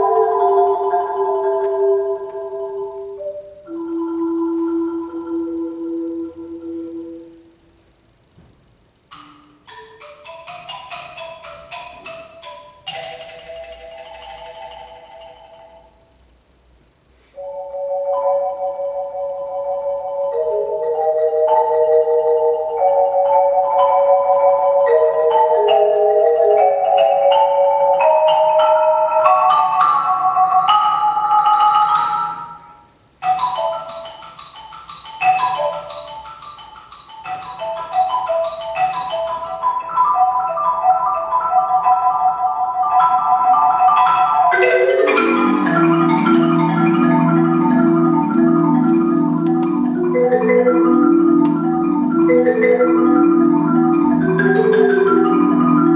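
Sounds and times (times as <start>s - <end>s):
marimba played with mallets: 0.0s - 7.6s, 9.1s - 16.2s, 17.4s - 55.9s.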